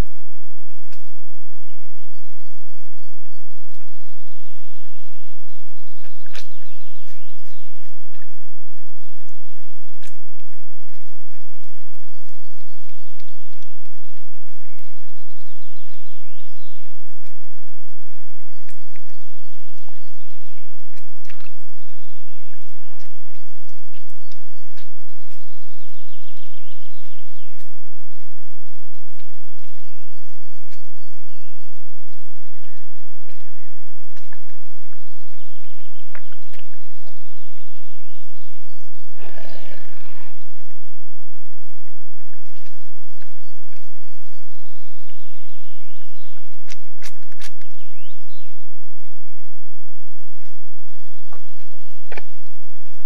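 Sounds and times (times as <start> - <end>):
steady low hum: 0.0 - 53.0
hooves splashing in mud: 0.8 - 48.6, 50.4 - 53.0
birds singing: 0.8 - 49.5, 50.4 - 53.0.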